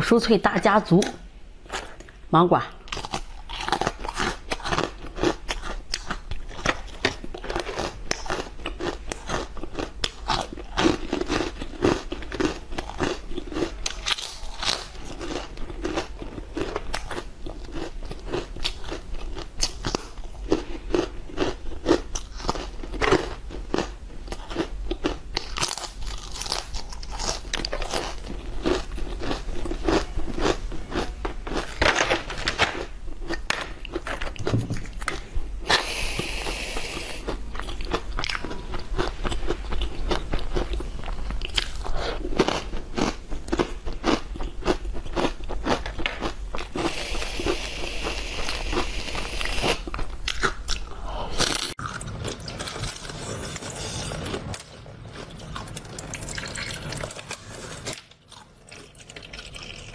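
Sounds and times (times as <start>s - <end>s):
crunching crisps: 2.9s - 58.9s.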